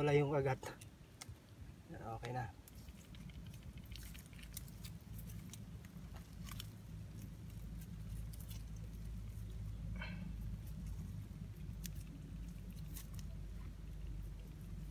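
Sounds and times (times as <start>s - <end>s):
low steady rumble: 0.0s - 14.9s
small clicks and crackles: 0.5s - 1.5s, 2.1s - 14.9s.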